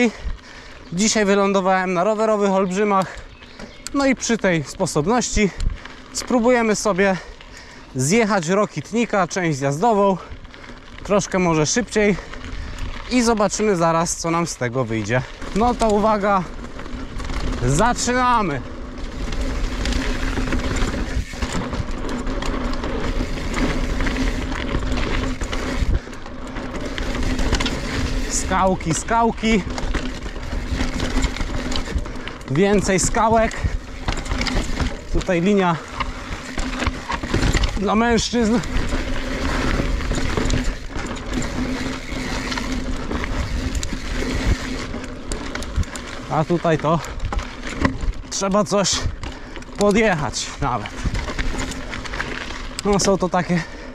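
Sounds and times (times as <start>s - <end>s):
bike clacking and rattling on stones: 0.0s - 53.9s
tyres rumbling on dirt and rock: 0.0s - 53.9s.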